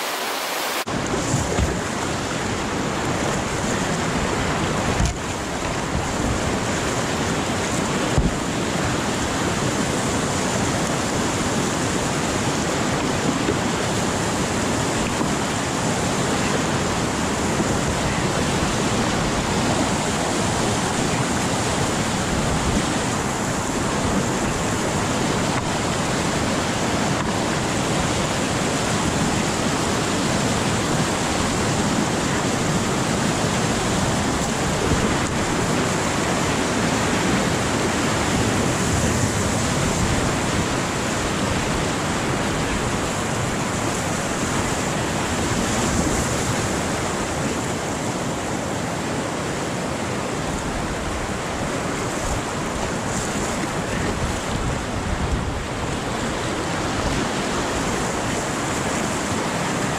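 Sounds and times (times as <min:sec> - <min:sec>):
whitewater rapids rushing: 0:00.0 - 0:59.9.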